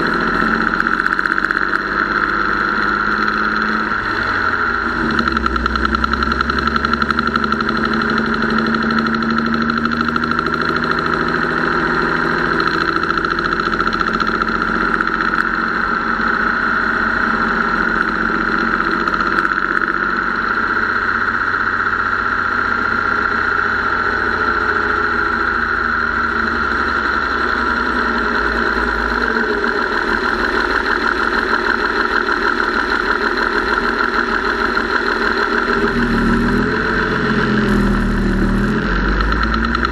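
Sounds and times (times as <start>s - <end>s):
engine running: 0.0s - 39.9s
valve train tapping: 0.0s - 39.9s.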